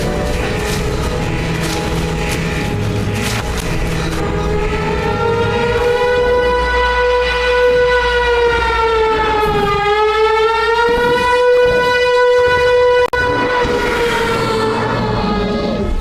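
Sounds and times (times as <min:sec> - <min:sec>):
civil defense siren steady tone: 0:00.0 - 0:16.0.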